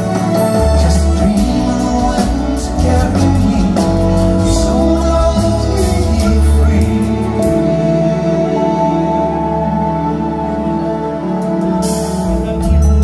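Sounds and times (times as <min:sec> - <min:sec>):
bass: 0:00.0 - 0:13.0
drums: 0:00.0 - 0:13.0
keyboard chords: 0:00.0 - 0:13.0.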